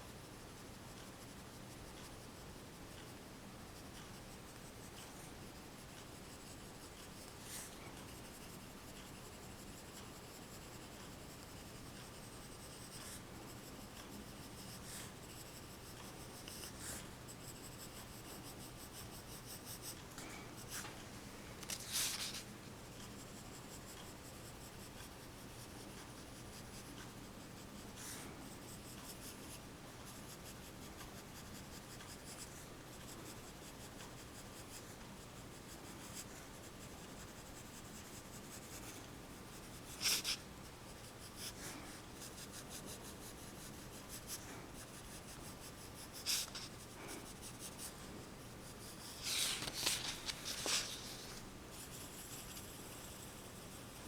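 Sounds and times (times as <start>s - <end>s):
pencil scratching on paper: 0.3s - 20.0s, 21.7s - 54.0s.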